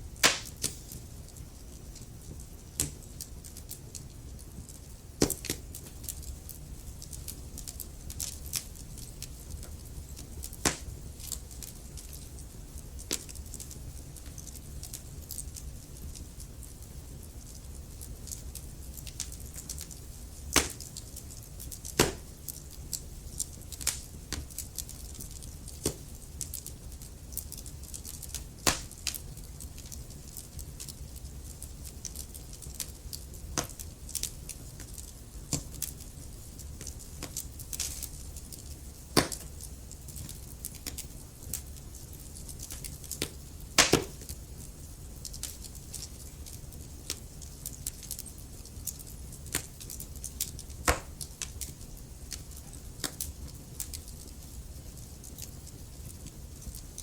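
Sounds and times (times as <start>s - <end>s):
burning logs crackling: 0.0s - 57.0s
low rumble of flames: 0.0s - 57.0s.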